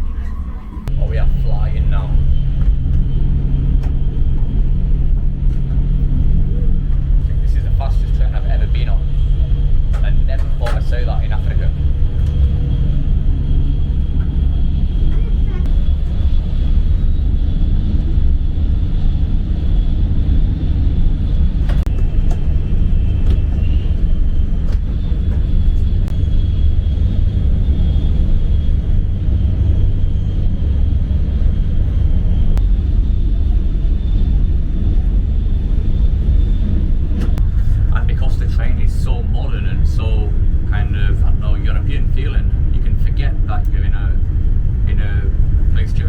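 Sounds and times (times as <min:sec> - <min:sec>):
faint high whine: 0:00.0 - 0:46.0
train cabin low rumble: 0:00.0 - 0:46.0.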